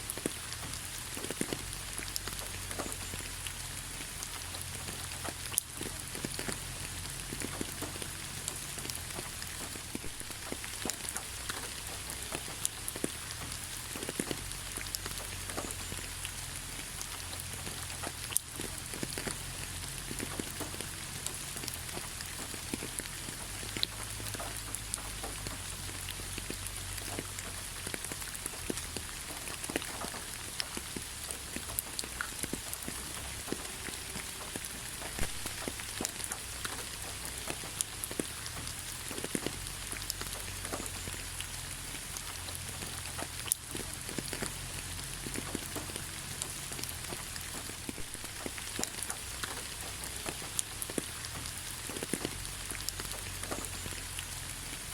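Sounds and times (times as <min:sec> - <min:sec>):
rain drops clicking: 0:00.0 - 0:54.9
rain hiss: 0:00.0 - 0:54.9.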